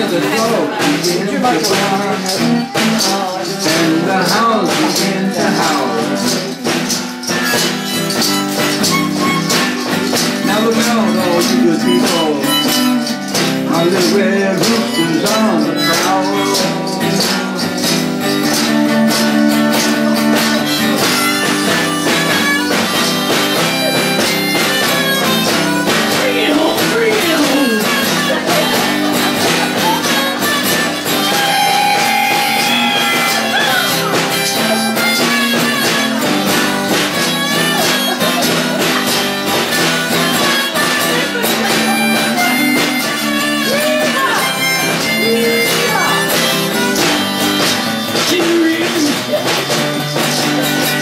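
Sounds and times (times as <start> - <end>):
acoustic guitar: 0.0 - 51.0
tambourine beat: 0.0 - 51.0.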